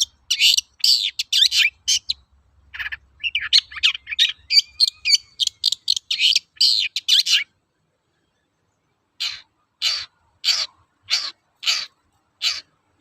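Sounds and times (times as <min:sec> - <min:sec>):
bird chattering song: 0:00.0 - 0:12.8.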